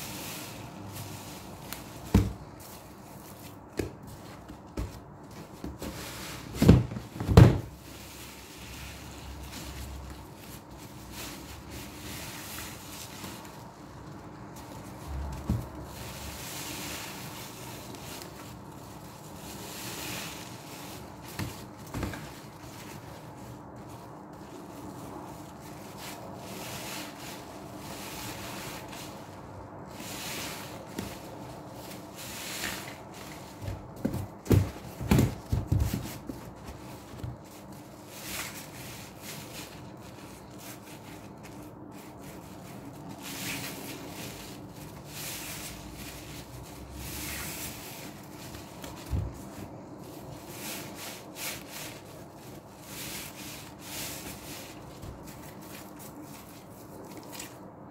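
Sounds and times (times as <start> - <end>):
wet sponges squishing: 7.7 - 57.6.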